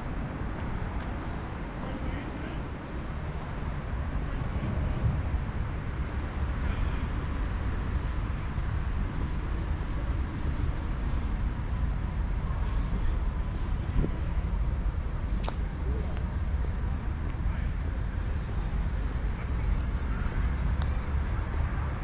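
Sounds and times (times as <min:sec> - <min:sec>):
city road traffic rumble: 0:00.0 - 0:22.0.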